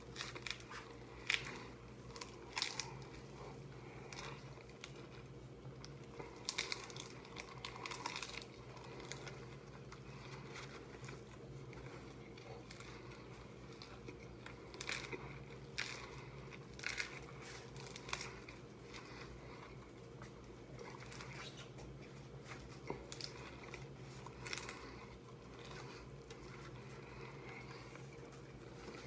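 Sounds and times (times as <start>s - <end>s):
crunching hard-shell tacos: 0.0s - 29.0s.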